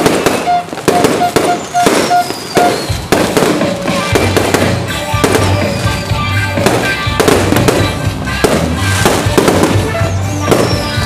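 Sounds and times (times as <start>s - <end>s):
fireworks bangs and crackles: 0.0s - 11.0s
music playing: 0.4s - 11.0s.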